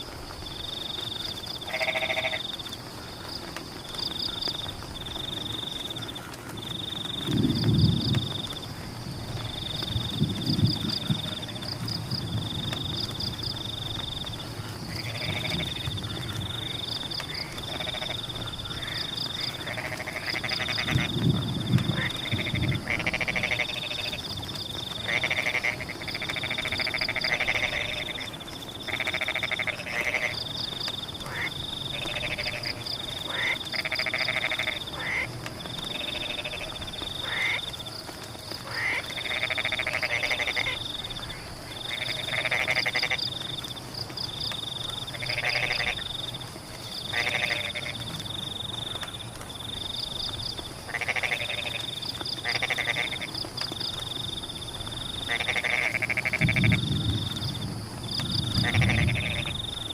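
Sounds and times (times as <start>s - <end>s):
frogs croaking: 0.0s - 59.9s
rain hissing: 0.0s - 59.9s.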